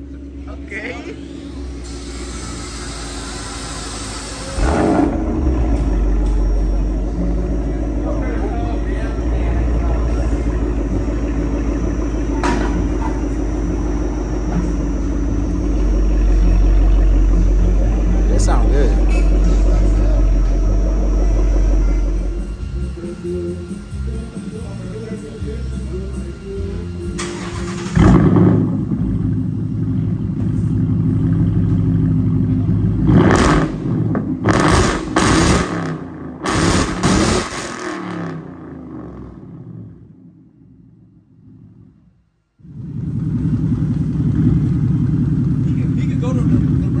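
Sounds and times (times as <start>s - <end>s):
car exhaust idling rumble: 0.0s - 47.0s.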